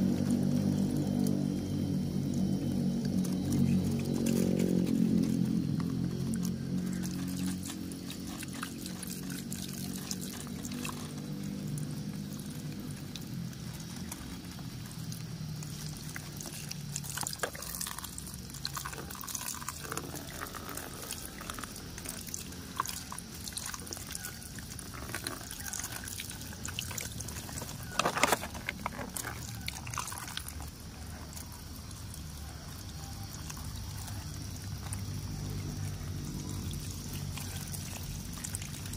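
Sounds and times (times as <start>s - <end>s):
water pouring and splashing: 0.0s - 38.9s.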